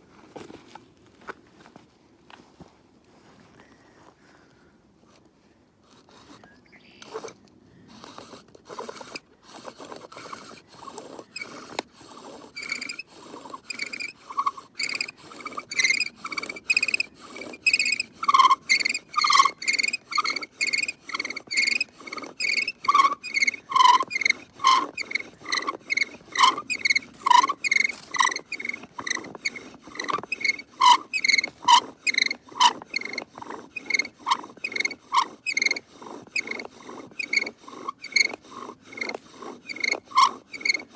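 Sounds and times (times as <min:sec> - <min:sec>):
bow drill spindle squeaking: 0:06.1 - 0:40.9.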